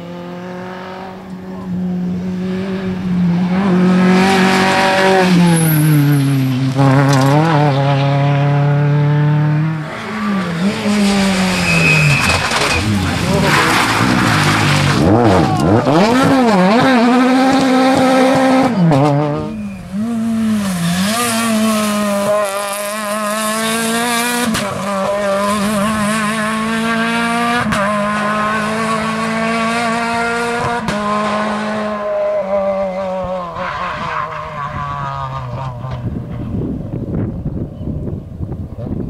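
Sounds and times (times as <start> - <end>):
rally car engine revving: 0.0 - 37.6.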